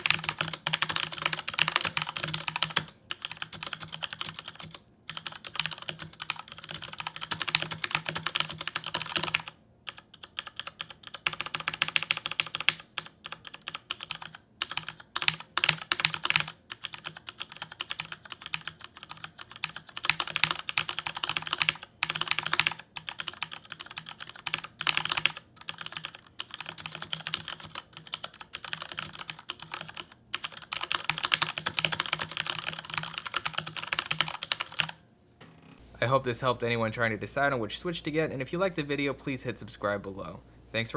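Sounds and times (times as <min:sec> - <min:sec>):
fast mechanical keyboard typing: 0:00.0 - 0:35.0.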